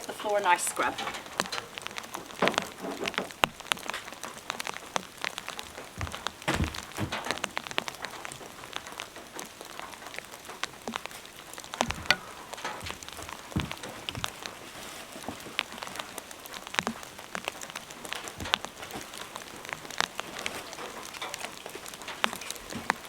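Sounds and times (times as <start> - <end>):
heavy rain pattering and dripping: 0.0 - 23.0
dull thumps: 0.8 - 9.0, 11.7 - 23.0.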